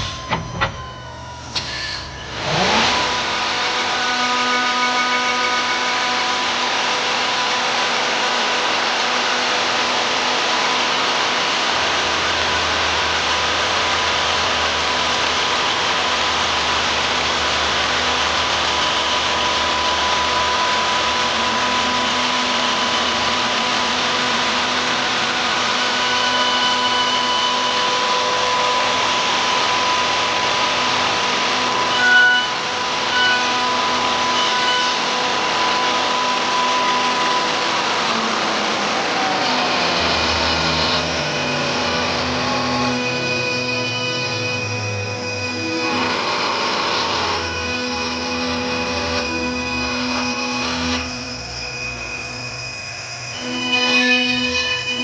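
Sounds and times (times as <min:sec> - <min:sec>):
wood lathe motor whine: 0:00.0 - 0:55.0.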